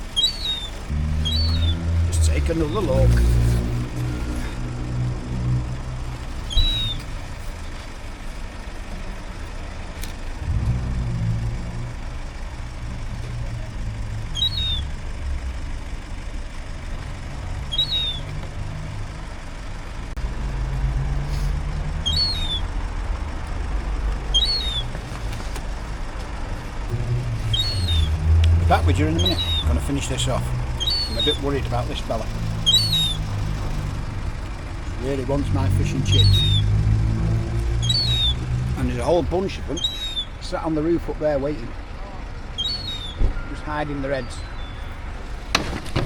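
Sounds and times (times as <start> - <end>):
large vehicle engine rumbling: 0.0 - 46.0.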